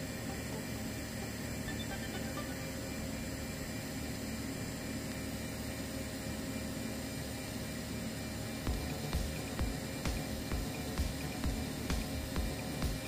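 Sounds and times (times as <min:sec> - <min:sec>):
welding arc hissing and humming: 0:00.0 - 0:13.0.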